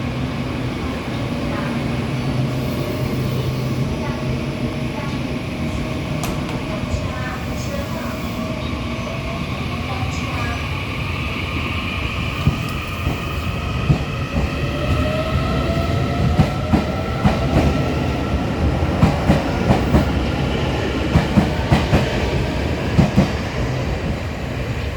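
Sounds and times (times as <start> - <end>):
electric train rumbling: 0.0 - 24.9.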